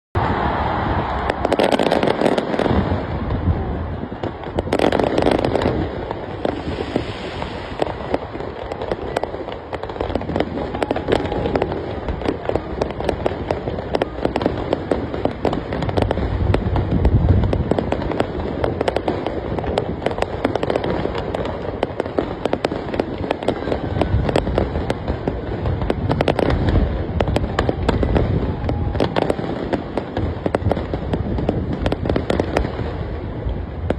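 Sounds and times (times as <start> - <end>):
fireworks bangs and crackling: 0.2 - 33.9
heavy fireworks booms: 0.2 - 33.9.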